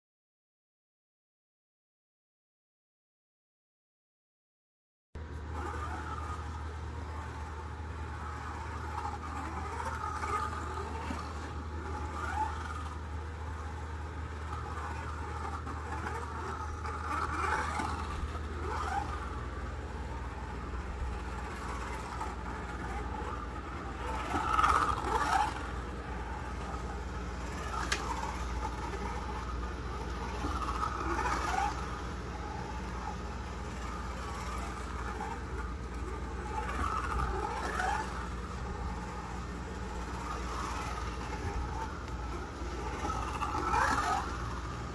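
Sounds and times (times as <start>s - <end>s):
slot car motor whining: 5.2s - 44.9s
steady low hum: 5.2s - 44.9s.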